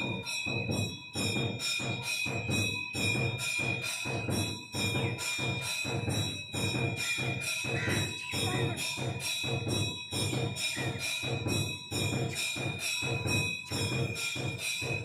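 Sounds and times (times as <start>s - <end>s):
temple bell ringing: 0.0s - 15.0s.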